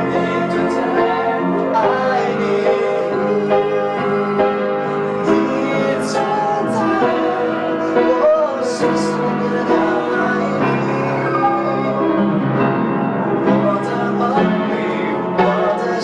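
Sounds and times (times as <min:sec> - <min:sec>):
man singing: 0:00.0 - 0:12.4, 0:13.4 - 0:16.0
piano chords: 0:00.0 - 0:16.0.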